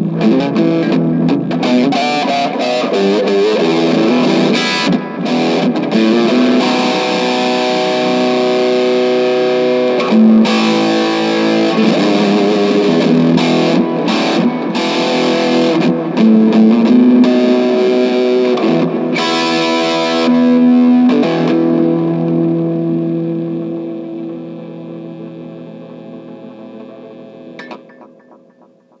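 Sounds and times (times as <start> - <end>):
distorted electric guitar chords: 0.0 - 29.0.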